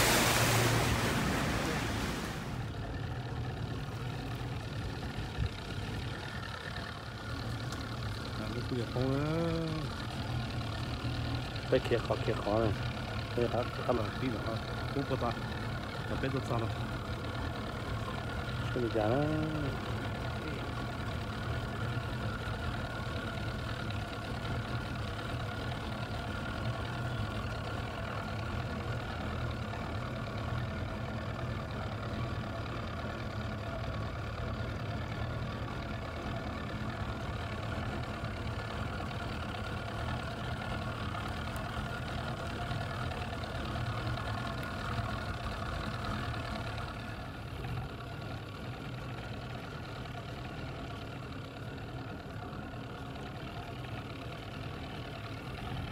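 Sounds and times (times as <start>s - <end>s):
outboard motor running: 0.0s - 55.9s.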